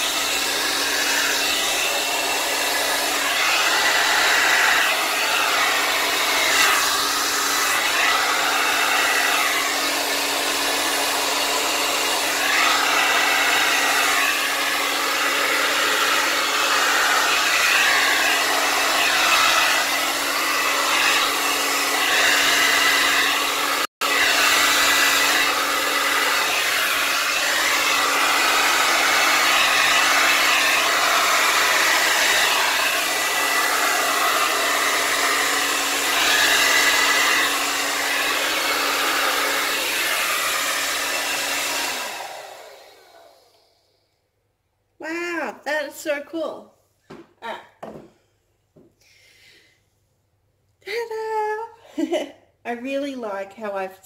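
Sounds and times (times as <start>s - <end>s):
hair dryer running: 0.0s - 44.0s.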